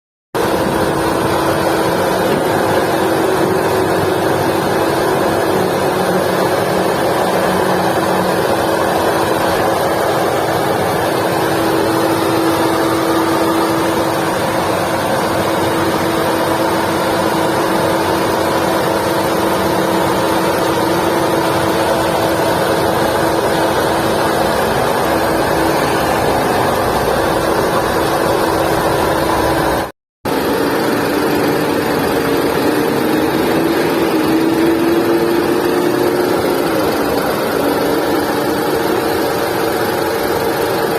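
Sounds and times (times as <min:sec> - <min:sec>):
car engine running with whine: 0:00.4 - 0:40.9.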